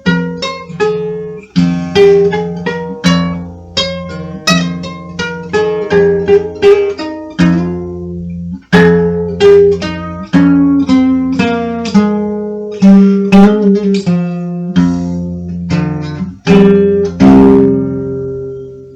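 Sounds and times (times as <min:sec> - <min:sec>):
acoustic guitar plucked notes: 0:00.0 - 0:18.9.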